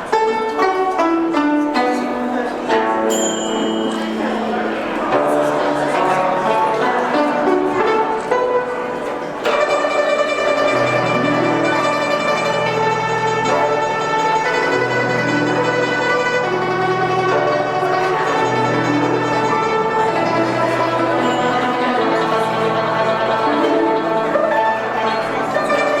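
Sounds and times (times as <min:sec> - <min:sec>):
traditional orchestra playing: 0:00.0 - 0:26.0.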